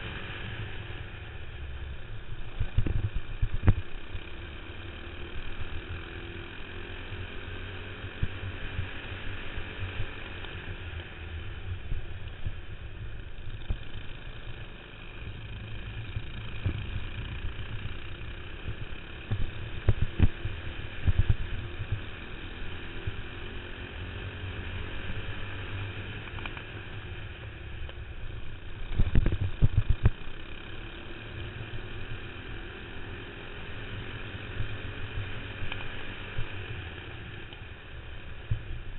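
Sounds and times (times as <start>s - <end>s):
kart engine accelerating and slowing: 0.0s - 38.9s.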